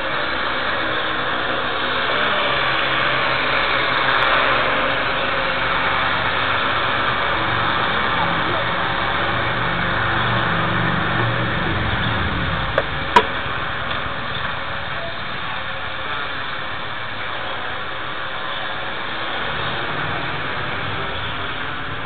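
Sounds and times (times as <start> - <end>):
drone rotors humming: 0.0 - 22.0.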